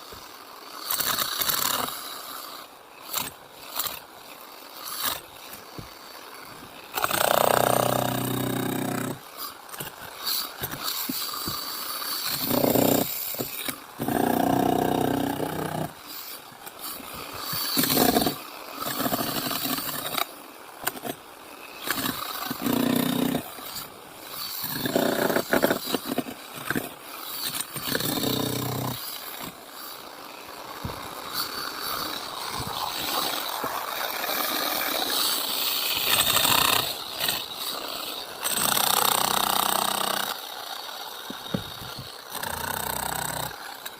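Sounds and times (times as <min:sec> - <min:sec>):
power saw cutting concrete: 0:00.0 - 0:43.9.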